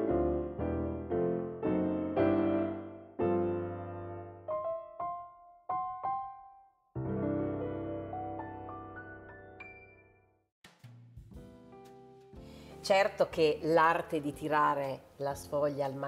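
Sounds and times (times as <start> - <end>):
piano music: 0.0 - 10.5, 11.3 - 16.0.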